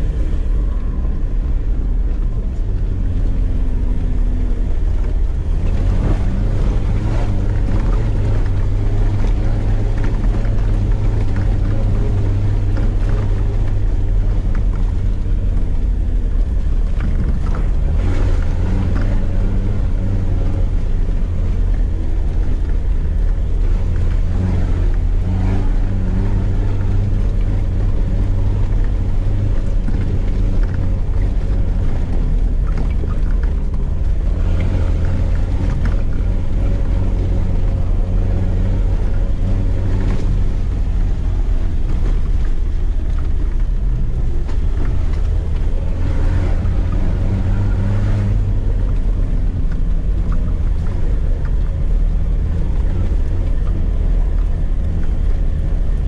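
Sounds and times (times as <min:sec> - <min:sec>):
vehicle engine running at low speed: 0:00.0 - 0:56.0.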